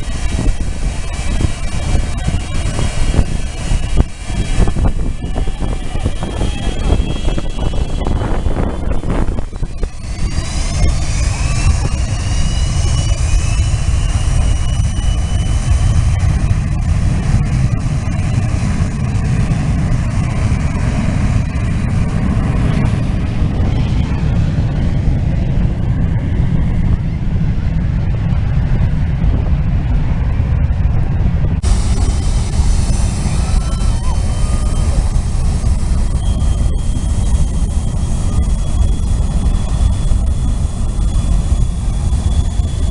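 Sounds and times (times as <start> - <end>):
high jet engine whine: 0.0 - 42.9
jet engines rumbling: 0.0 - 42.9.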